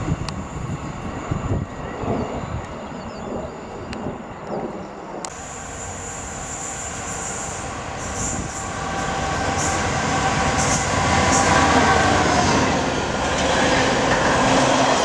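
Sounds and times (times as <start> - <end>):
diesel locomotive engine: 0.0 - 15.0
train wheel noise: 0.0 - 15.0.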